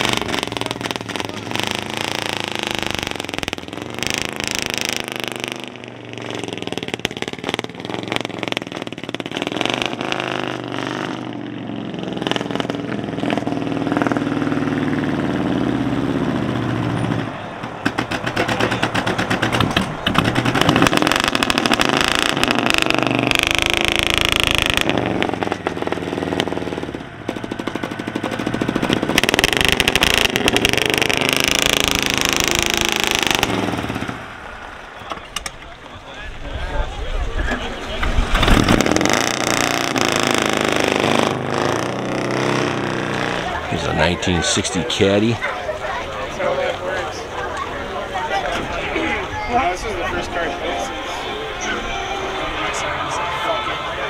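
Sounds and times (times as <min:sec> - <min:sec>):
car engine revving: 0:00.0 - 0:35.9, 0:37.5 - 0:54.0.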